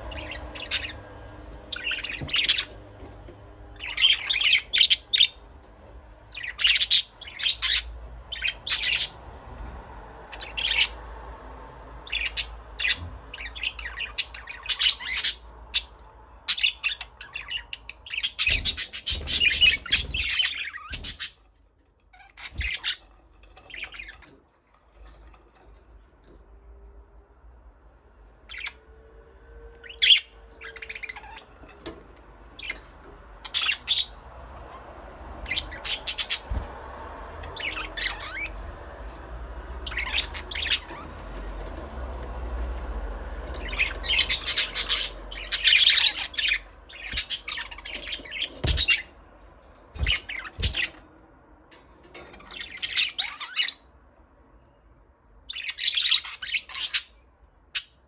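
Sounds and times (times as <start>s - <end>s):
budgerigars chirping and squawking: 0.0s - 5.5s, 6.3s - 11.3s, 11.9s - 24.4s, 28.5s - 28.8s, 29.8s - 51.0s, 52.0s - 53.9s, 55.4s - 58.0s.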